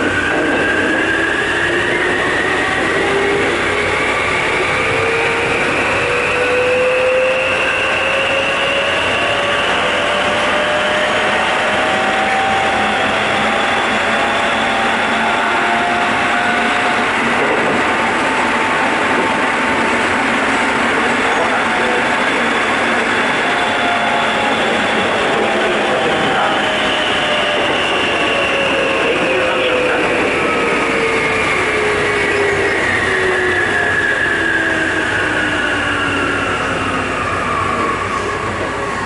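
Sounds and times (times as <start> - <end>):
train motor whine rising: 0.0 - 39.0
train running noise: 0.0 - 39.0.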